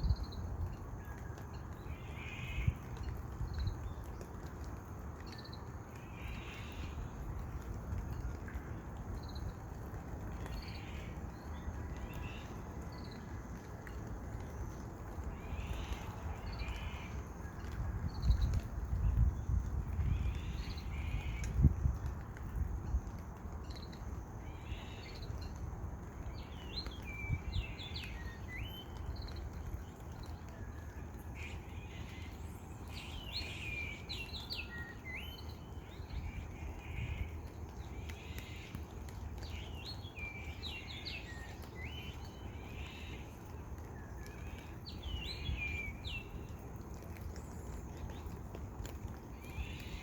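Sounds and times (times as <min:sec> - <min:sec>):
low background noise: 0:00.0 - 0:50.0.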